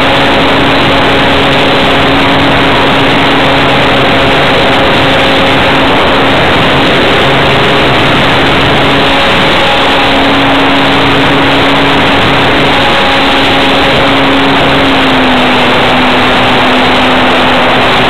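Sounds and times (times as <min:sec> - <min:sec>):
motor and propeller hum: 0:00.0 - 0:18.0
wind rush over microphone: 0:00.0 - 0:18.0.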